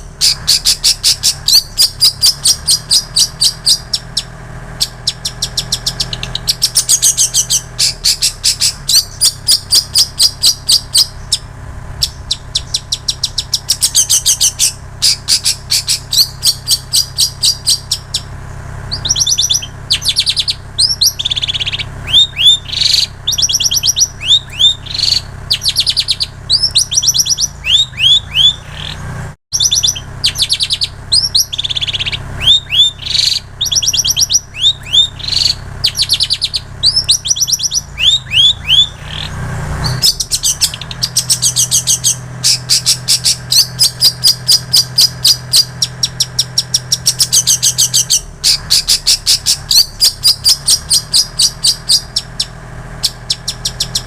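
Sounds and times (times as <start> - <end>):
bird singing fast chirping song: 0.0 - 54.0.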